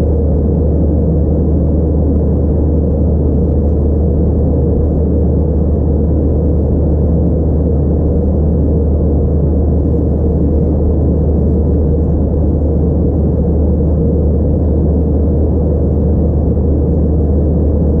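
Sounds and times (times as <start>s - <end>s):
airplane cabin engine drone: 0.0s - 18.0s.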